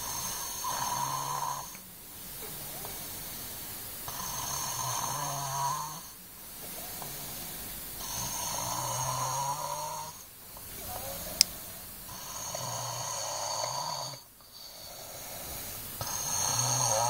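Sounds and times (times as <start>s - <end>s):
boy snoring: 0.0s - 1.8s, 2.4s - 11.0s, 12.1s - 17.0s
quiet breathing: 0.0s - 17.0s.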